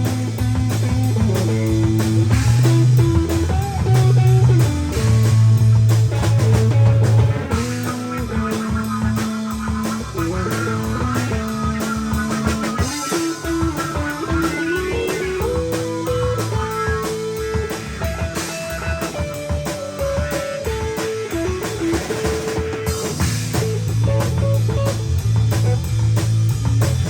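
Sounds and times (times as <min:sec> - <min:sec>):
steady low bass part: 0:00.0 - 0:20.3, 0:23.1 - 0:27.0
drums: 0:00.0 - 0:27.0
lead guitar: 0:00.0 - 0:27.0.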